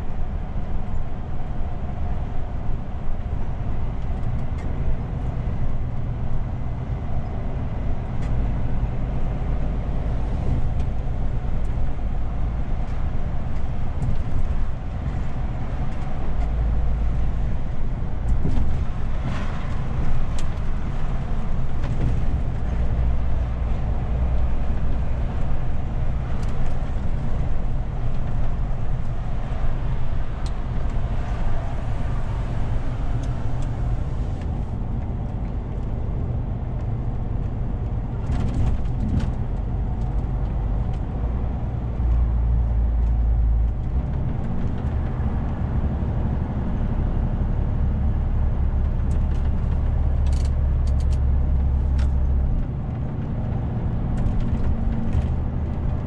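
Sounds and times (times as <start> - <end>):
road and tyre noise: 0.0 - 56.0
truck diesel engine rumble: 0.0 - 56.0.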